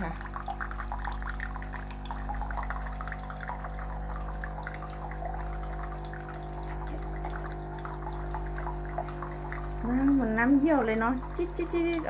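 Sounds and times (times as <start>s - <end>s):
coffee machine humming: 0.0s - 12.0s
water trickling into a mug: 0.0s - 12.0s.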